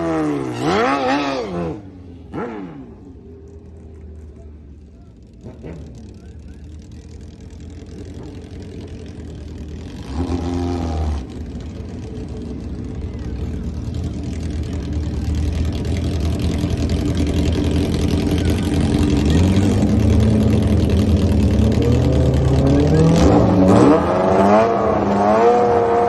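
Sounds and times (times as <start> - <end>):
car engine accelerating: 0.0 - 26.0
car engine revving: 0.0 - 26.0.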